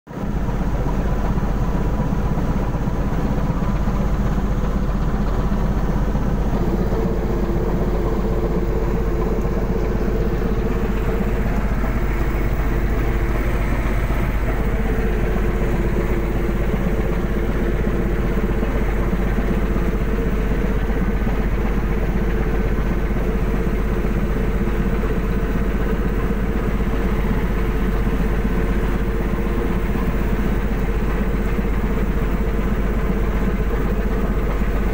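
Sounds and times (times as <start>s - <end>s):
drone of boat engines and machinery: 0.1s - 34.9s.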